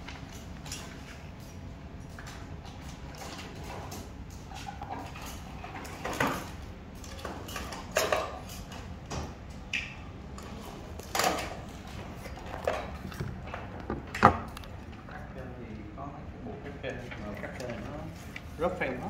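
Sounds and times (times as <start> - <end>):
steady low hall hum: 0.0 - 19.0.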